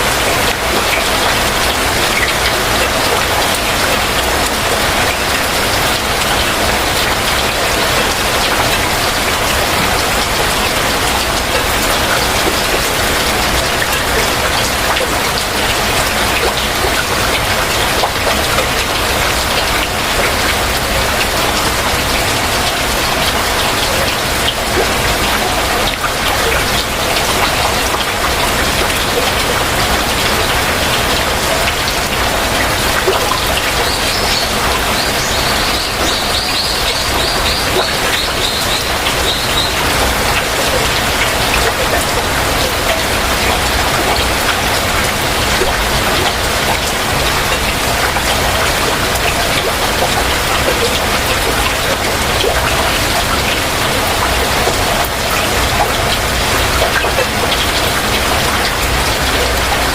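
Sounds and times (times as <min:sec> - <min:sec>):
raindrops hitting surfaces: 0:00.0 - 0:59.9.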